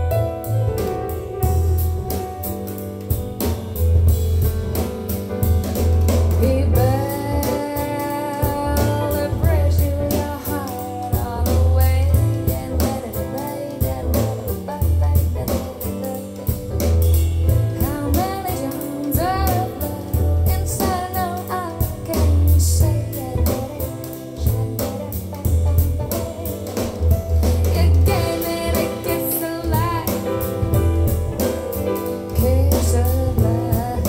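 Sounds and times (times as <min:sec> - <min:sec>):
smooth jazz song over loudspeakers: 0:00.0 - 0:34.0.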